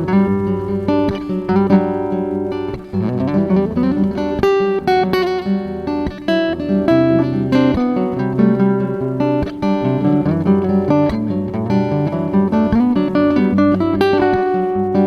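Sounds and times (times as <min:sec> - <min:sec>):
fingerstyle acoustic guitar: 0:00.0 - 0:15.0
looped guitar part: 0:00.0 - 0:15.0.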